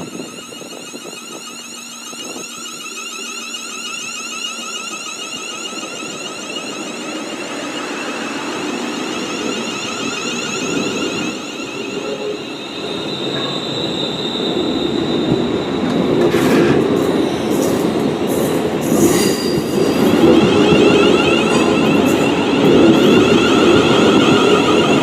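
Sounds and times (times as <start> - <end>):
high steady squeal: 0.0 - 17.5, 18.5 - 25.0
electric train traction whine: 0.0 - 25.0
rail noise: 0.0 - 25.0.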